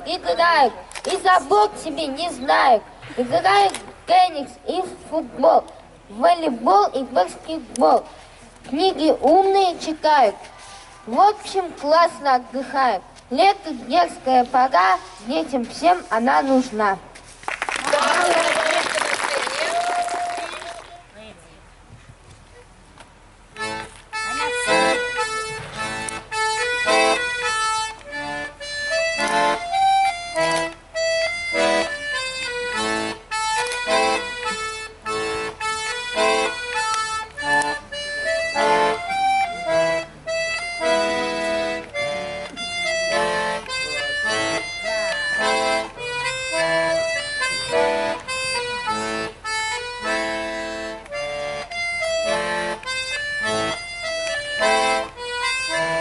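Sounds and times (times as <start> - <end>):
accordion playing a melody: 0.0 - 16.9, 23.5 - 56.0.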